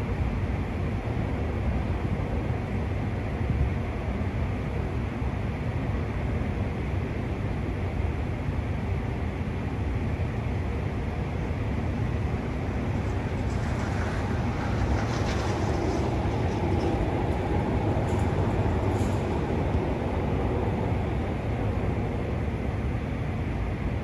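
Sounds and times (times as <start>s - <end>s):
city background rumble: 0.0s - 24.0s.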